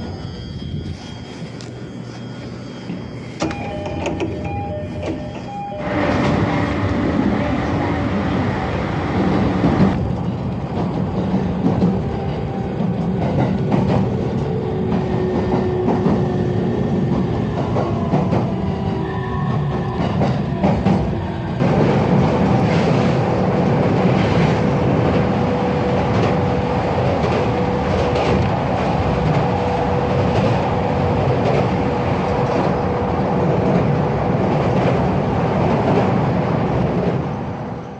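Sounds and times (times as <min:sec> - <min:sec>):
train rumbling on rails: 0:00.0 - 0:37.9.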